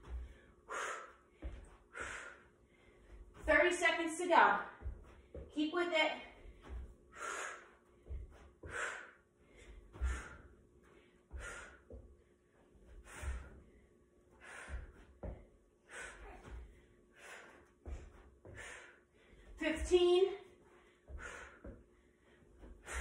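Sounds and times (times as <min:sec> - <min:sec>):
woman gasping breaths: 0:00.0 - 0:03.4, 0:06.4 - 0:12.3, 0:12.9 - 0:19.6, 0:20.5 - 0:23.0.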